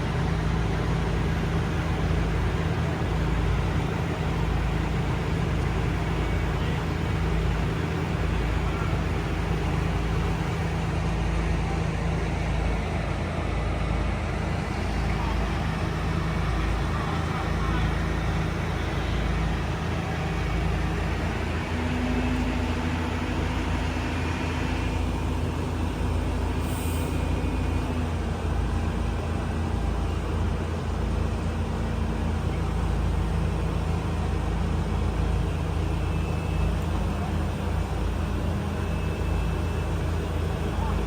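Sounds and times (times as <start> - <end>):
heavy machinery engine rumbling: 0.0 - 41.0.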